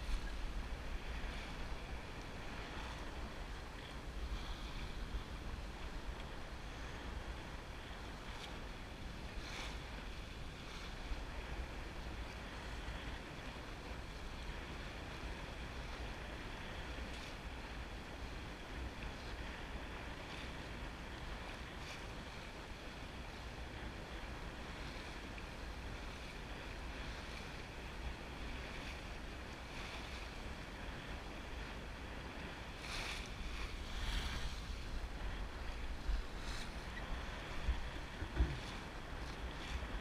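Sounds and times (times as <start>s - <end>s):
water rushing along a boat hull: 0.0s - 40.0s
wind rumble on microphone: 0.0s - 40.0s.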